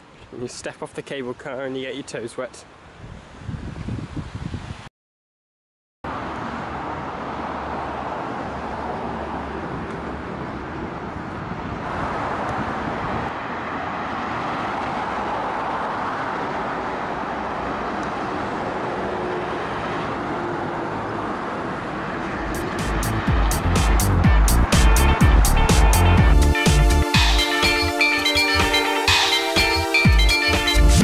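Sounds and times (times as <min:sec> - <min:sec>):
steady outdoor rushing noise: 0:06.1 - 0:31.0.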